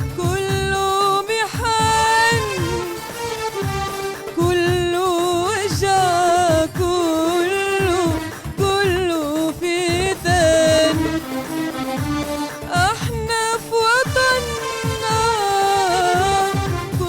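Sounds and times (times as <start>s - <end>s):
instrumental accompaniment: 0.0s - 17.0s
woman singing ornamented phrases: 0.2s - 3.2s, 4.4s - 11.5s, 12.7s - 17.0s.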